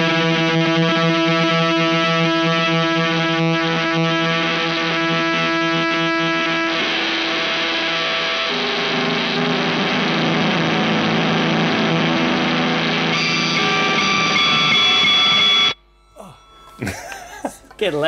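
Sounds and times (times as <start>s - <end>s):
fuzzed electric guitar: 0.0s - 17.9s.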